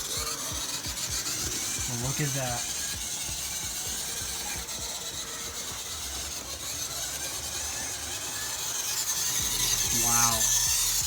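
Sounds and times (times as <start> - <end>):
model train motor whirring: 0.0 - 11.0
wheels rolling on rails: 0.0 - 11.0.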